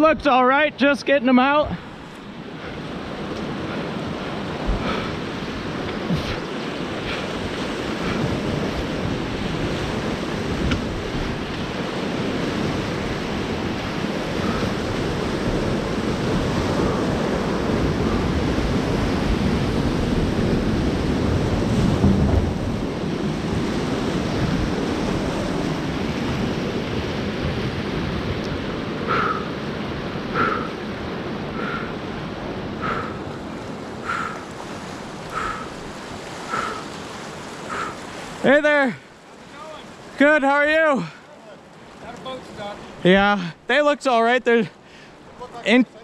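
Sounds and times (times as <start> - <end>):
whitewater rushing: 0.0 - 46.0
wind buffeting microphone: 1.5 - 40.2.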